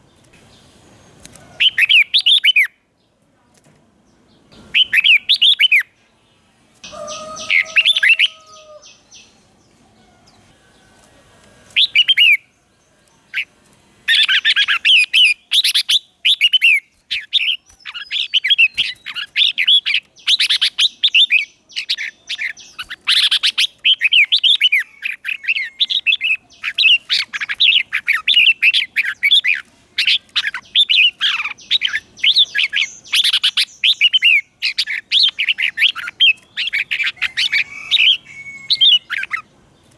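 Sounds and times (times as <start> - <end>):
bulbul singing: 4.5 - 6.0, 6.8 - 11.0, 11.6 - 39.9.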